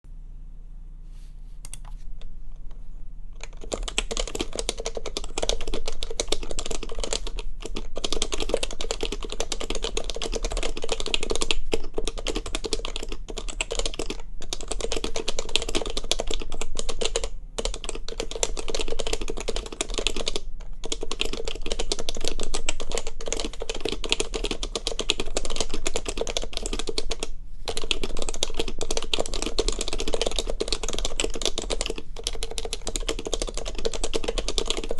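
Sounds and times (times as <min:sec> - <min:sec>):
fast keyboard typing: 0:03.4 - 0:34.9.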